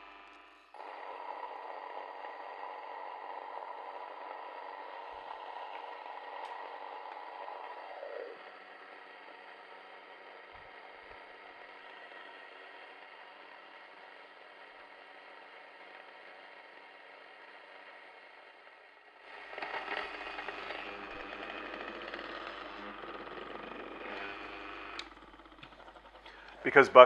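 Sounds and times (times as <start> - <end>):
grain mill grinding: 0.0 - 27.0.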